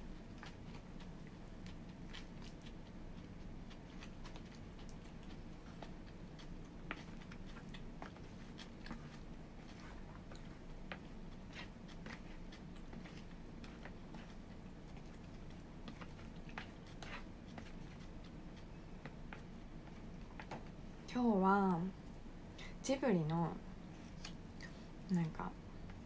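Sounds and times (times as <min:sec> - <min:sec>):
soft chewing: 0:00.0 - 0:21.1, 0:23.6 - 0:26.0
low room hum: 0:00.0 - 0:26.0.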